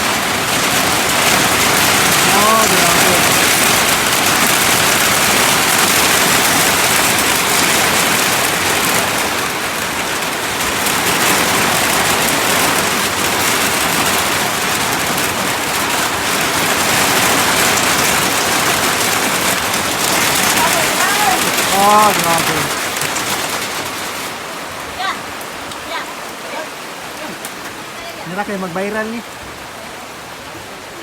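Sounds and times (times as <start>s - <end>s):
heavy rain drumming: 0.0s - 31.0s.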